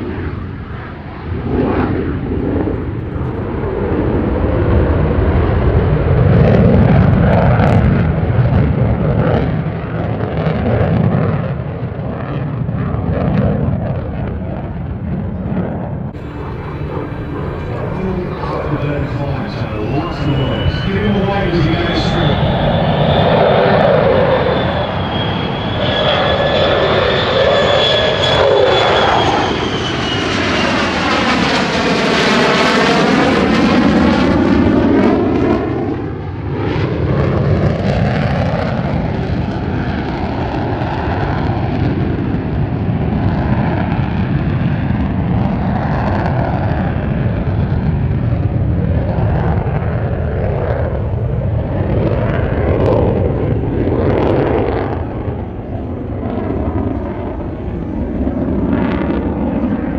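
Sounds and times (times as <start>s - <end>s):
jet engine whine and roar: 0.0s - 59.9s
jet passing overhead whoosh: 0.0s - 59.9s.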